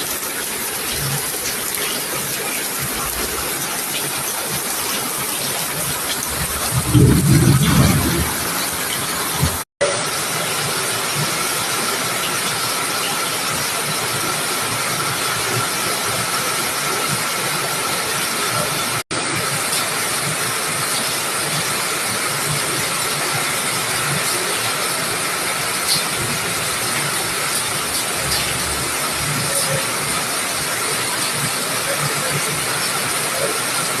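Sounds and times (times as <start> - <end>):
water rushing: 0.0 - 34.0.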